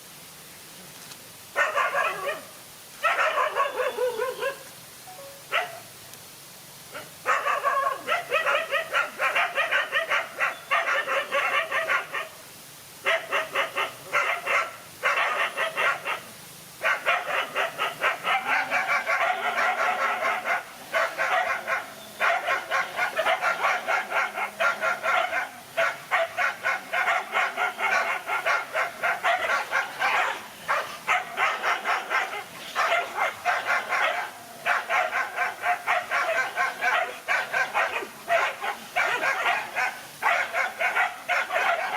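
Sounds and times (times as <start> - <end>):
dogs barking rapidly: 1.6 - 4.6, 5.5 - 5.8, 6.9 - 12.4, 13.0 - 41.9.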